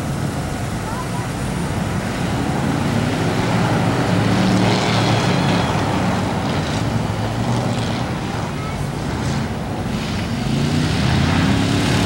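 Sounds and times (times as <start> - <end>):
noisy hiss: 0.0 - 12.0
racing car engines droning: 0.0 - 12.0.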